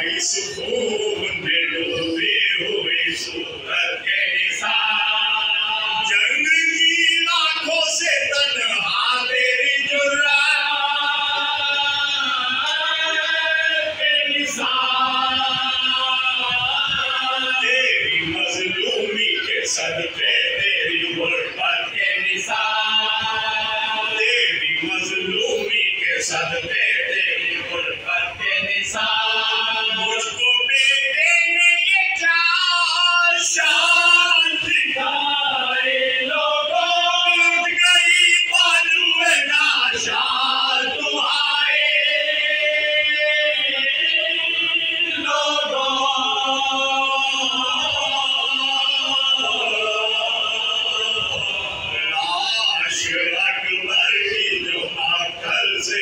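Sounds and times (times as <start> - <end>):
men chanting in unison: 0.0 - 56.0
men singing into a microphone: 0.0 - 56.0.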